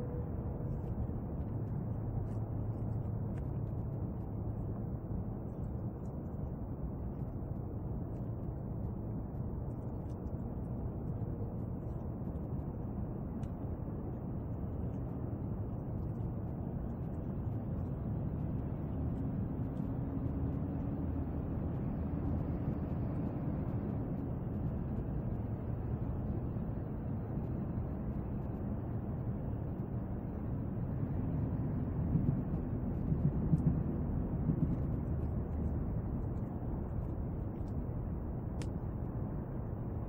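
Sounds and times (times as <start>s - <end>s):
faint hum: 0.0s - 40.0s
low rumbling background noise: 0.0s - 40.0s.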